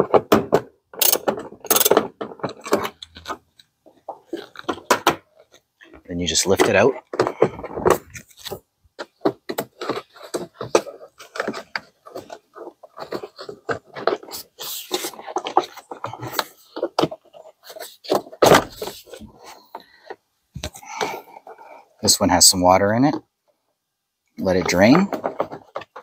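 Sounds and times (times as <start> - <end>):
plastic panel clicking and scraping: 0.0 - 21.6, 24.6 - 26.0.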